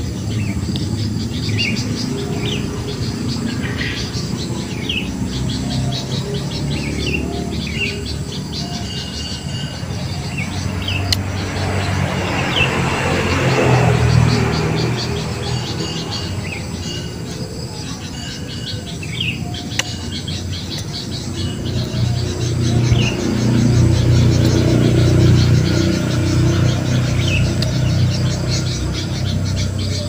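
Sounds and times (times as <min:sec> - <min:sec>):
fast ticking bird trill: 0:00.0 - 0:30.0
high falling bird chirps: 0:00.0 - 0:30.0.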